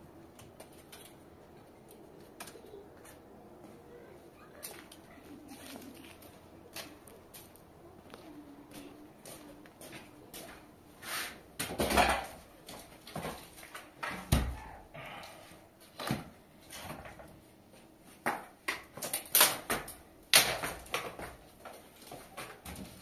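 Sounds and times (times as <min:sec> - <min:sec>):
footsteps and shuffling: 0:00.0 - 0:18.6.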